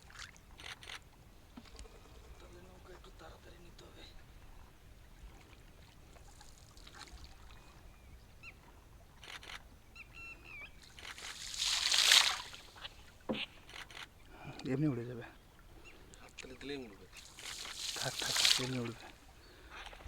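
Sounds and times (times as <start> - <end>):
waterfowl calling: 0.0 - 20.0.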